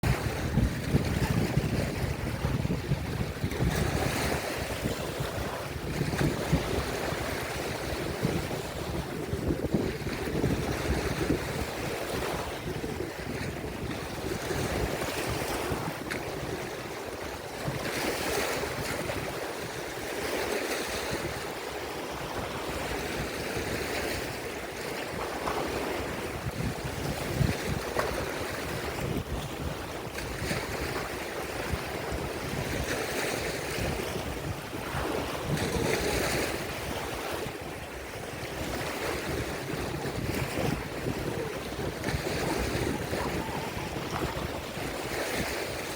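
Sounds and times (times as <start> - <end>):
waves washing onto shore: 0.0 - 45.9
wind rumbling on microphone: 0.0 - 45.9.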